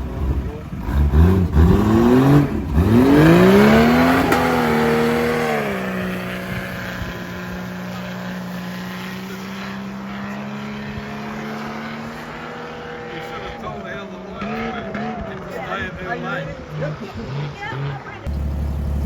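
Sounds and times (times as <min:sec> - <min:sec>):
engine revving hard: 0:00.0 - 0:19.0.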